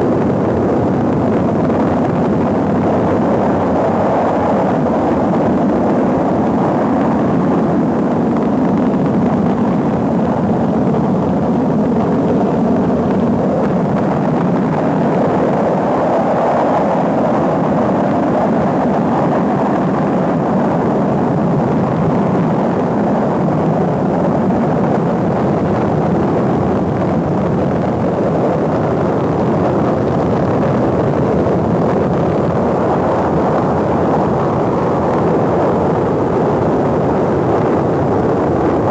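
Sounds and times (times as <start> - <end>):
rocket engine roar: 0.0 - 38.9.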